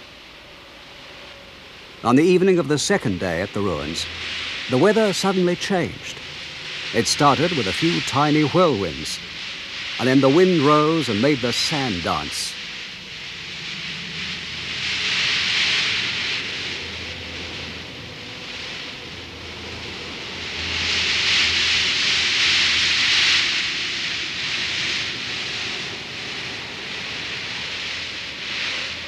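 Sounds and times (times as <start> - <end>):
wind blowing sand: 0.0 - 29.0.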